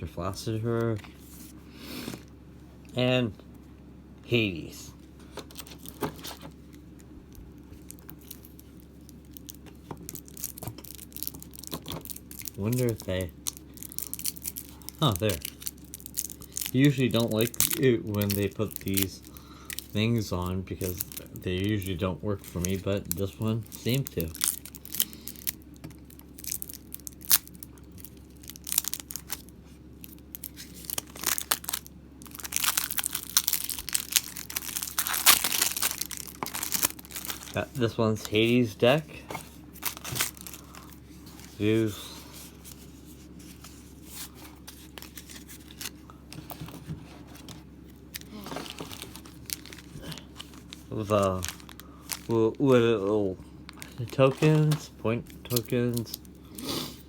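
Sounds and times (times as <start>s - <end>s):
plastic wrapping crinkling and tearing: 7.7s - 38.8s, 39.4s - 53.1s, 53.7s - 56.6s.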